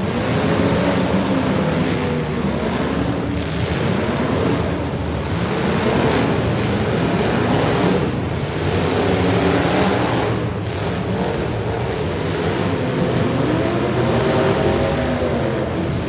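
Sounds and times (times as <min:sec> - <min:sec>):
car engines revving: 0:00.0 - 0:16.0
steady rushing noise: 0:00.0 - 0:16.0.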